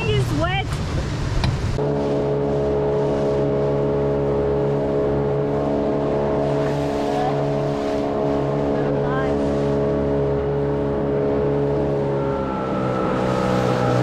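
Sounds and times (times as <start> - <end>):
outboard motor running: 1.4 - 14.0.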